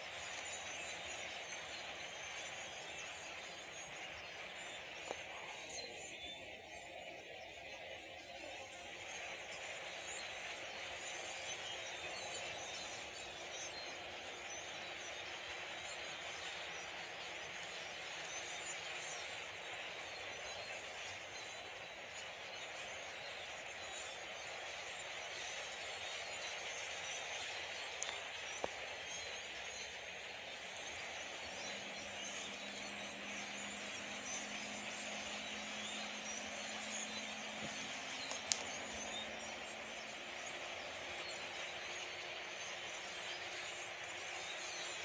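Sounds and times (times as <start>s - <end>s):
faint low hum: 0.0s - 45.0s
large flock of birds chattering: 0.0s - 45.0s.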